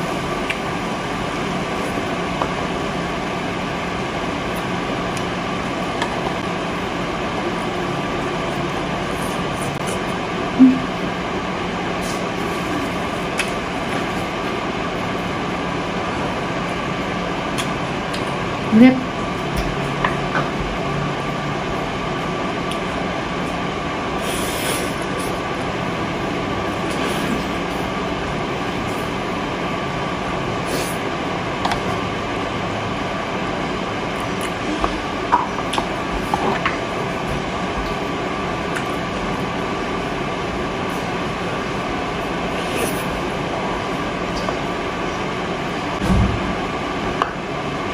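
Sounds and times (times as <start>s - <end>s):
steady background noise: 0.0s - 47.9s.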